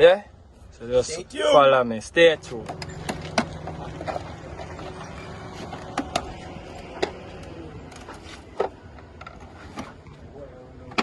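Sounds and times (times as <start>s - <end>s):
steady low hum: 0.3s - 10.9s.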